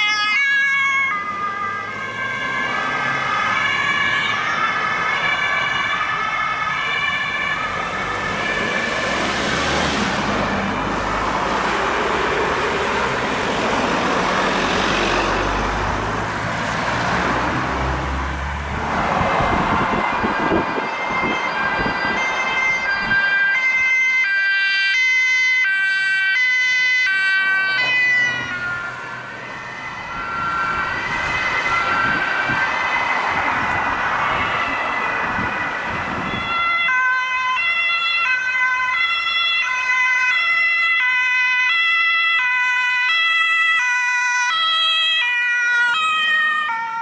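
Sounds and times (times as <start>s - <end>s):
road and tyre noise: 0.0s - 47.0s
two-tone police siren: 0.0s - 47.0s.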